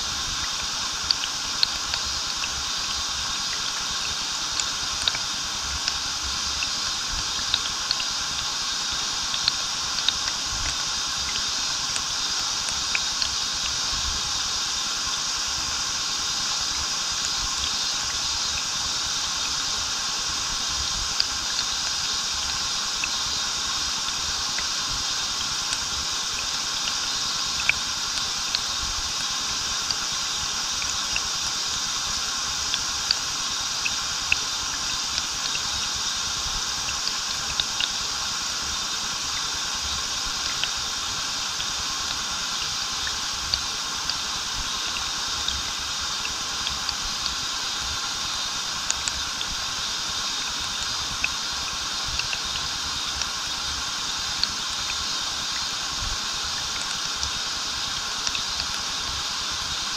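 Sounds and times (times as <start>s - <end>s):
small waterfall pouring: 0.0s - 59.9s.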